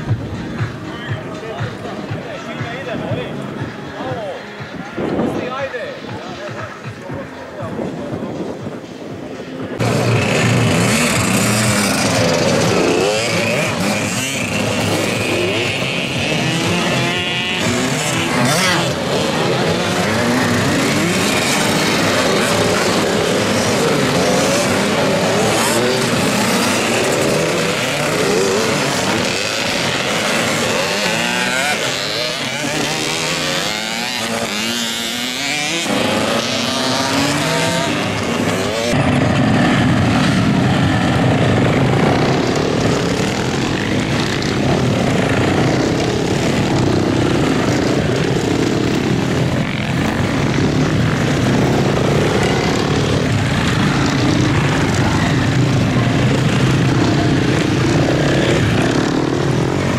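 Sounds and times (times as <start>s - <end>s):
motocross bikes revving: 9.0s - 59.9s.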